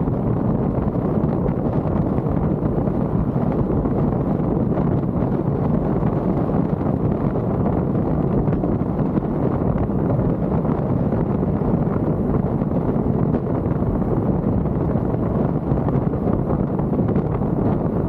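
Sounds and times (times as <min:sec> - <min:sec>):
car wind and road noise: 0:00.0 - 0:18.0.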